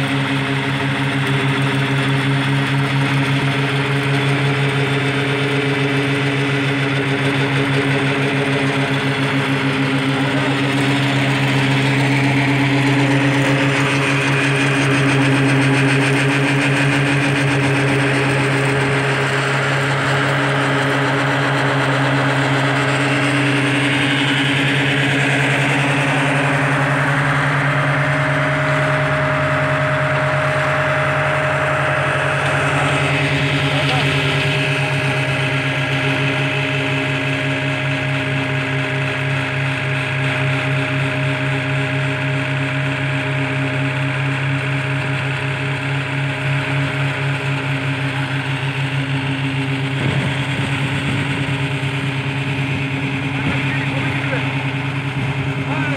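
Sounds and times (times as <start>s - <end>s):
machine engine humming: 0.0s - 55.9s.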